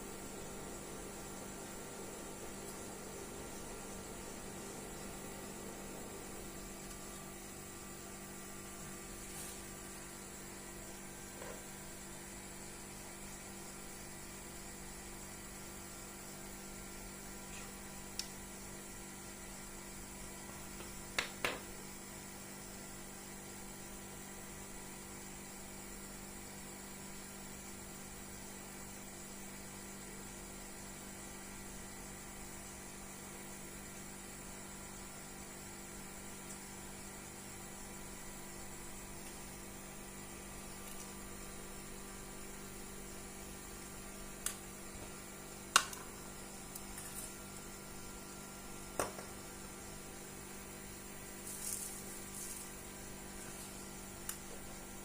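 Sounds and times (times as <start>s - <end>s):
electrical hum with hiss: 0.0s - 55.0s.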